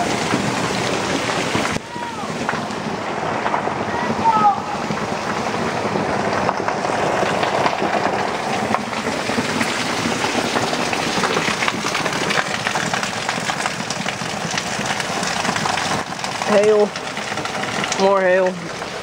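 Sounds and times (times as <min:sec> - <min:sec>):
hail clattering: 0:00.0 - 0:19.0
rain hissing: 0:00.0 - 0:19.0.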